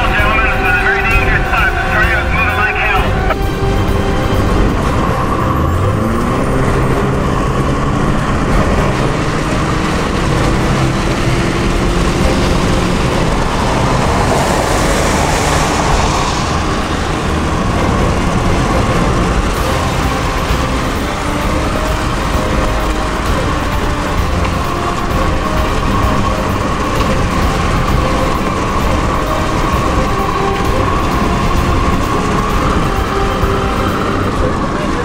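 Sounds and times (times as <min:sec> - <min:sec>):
tyres on wet road: 0:00.0 - 0:35.0
car engine from inside cabin: 0:03.2 - 0:35.0.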